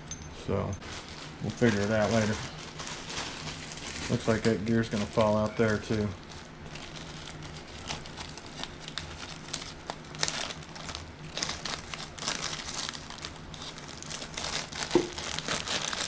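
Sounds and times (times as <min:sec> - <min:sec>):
plastic bag crinkling: 0:00.8 - 0:16.0.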